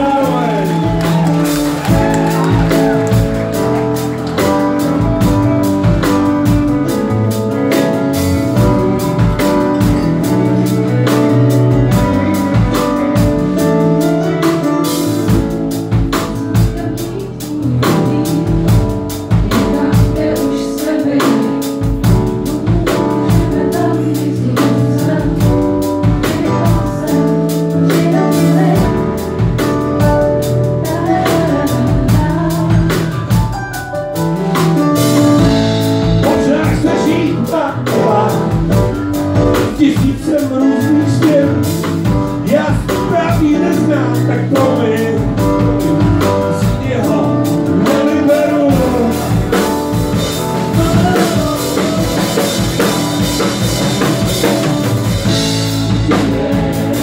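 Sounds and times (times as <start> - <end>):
live band playing with singing: 0.0 - 57.0.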